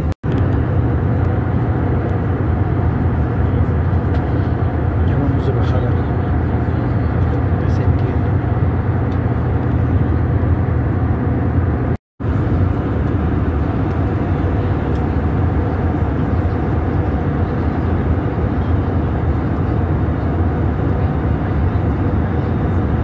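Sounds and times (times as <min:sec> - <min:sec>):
airplane cabin engine drone: 0:00.0 - 0:23.0.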